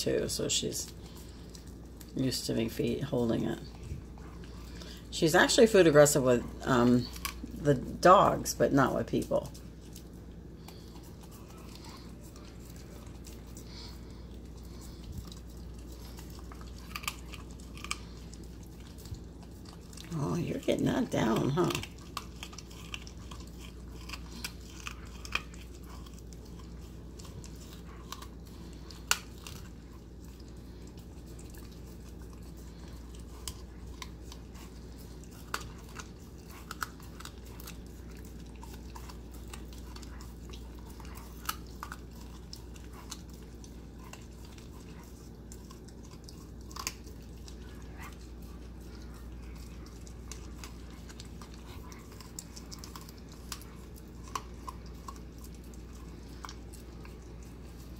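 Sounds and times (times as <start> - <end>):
puppy crunching bone: 0.0 - 57.9.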